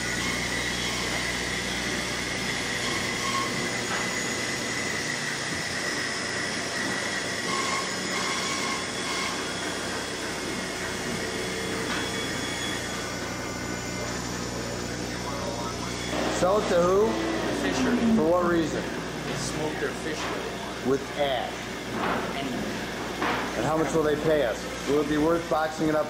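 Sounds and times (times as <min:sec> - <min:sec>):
high machine whine: 0:00.0 - 0:26.0
woodshop machinery din: 0:00.0 - 0:26.0.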